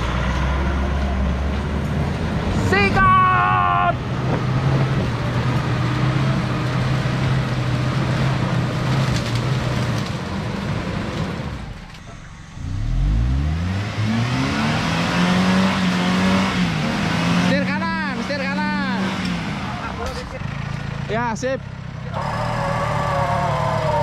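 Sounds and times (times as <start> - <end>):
off-road engine revving: 0.0 - 24.0.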